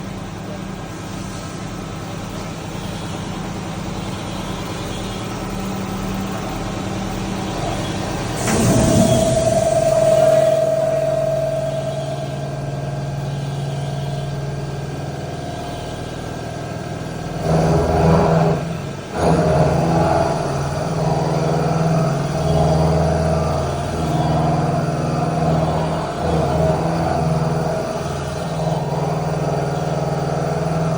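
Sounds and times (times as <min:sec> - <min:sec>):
machine whine: 0:00.0 - 0:30.9.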